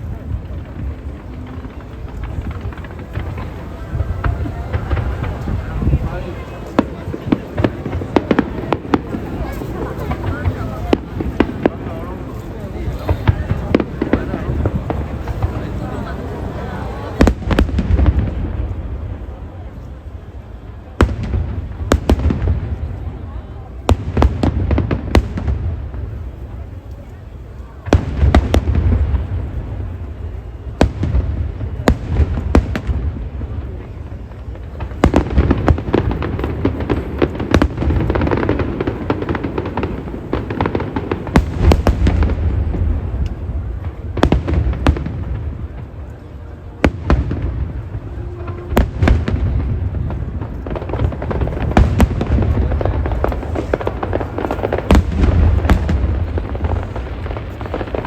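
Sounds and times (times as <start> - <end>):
fireworks bangs: 0.0 - 58.0
fireworks rumble and crackle: 0.0 - 58.0.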